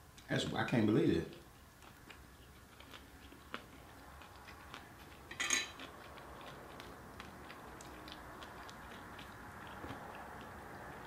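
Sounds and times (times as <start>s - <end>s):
person chewing: 1.3s - 11.0s.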